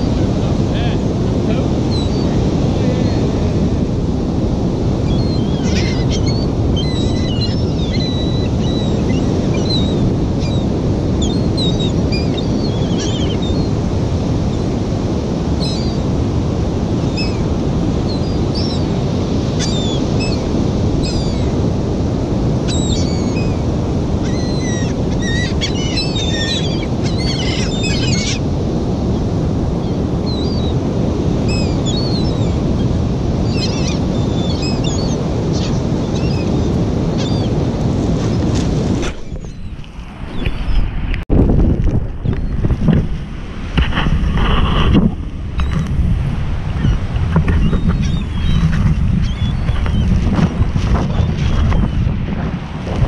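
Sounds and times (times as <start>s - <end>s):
gulls calling: 0.0s - 41.0s, 45.5s - 52.2s
surf: 0.0s - 53.0s
wind: 0.0s - 53.0s.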